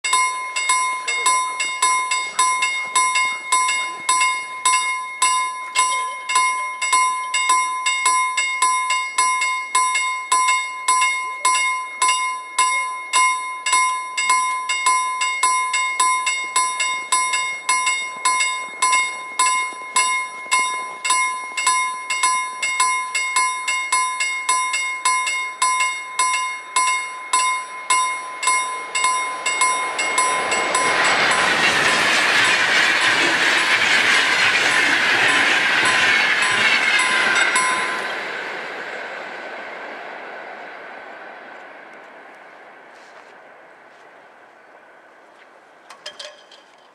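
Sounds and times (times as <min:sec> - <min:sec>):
level crossing bell ringing: 0:00.0 - 0:38.3.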